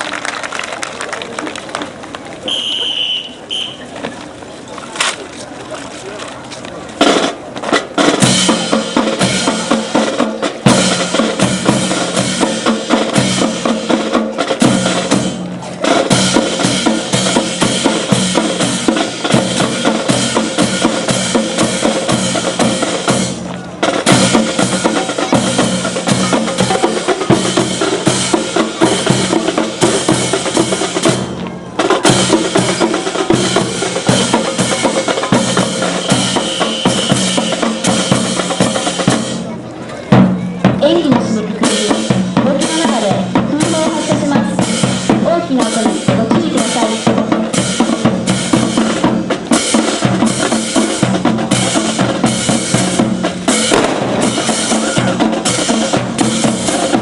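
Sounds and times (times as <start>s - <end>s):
drum-led music with bass drum: 7.0s - 57.0s.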